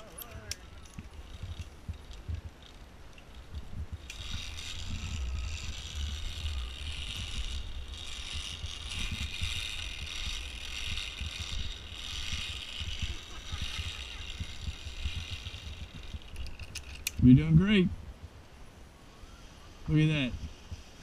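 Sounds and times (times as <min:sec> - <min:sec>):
zipline pulley whirring: 0:00.0 - 0:17.6, 0:19.2 - 0:21.0
wind buffeting microphone: 0:00.0 - 0:18.8.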